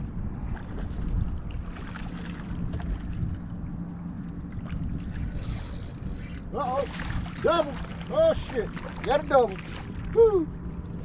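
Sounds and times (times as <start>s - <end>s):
water around a boat: 0.0s - 11.0s
wind: 0.0s - 11.0s.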